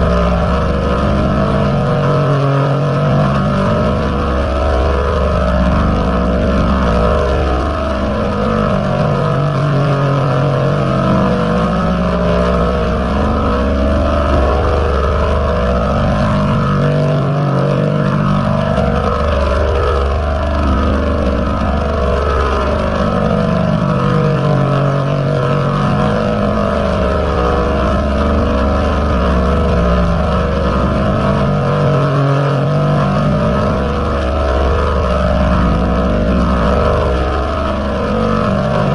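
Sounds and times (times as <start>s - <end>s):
distorted dense buzz: 0.0s - 38.9s.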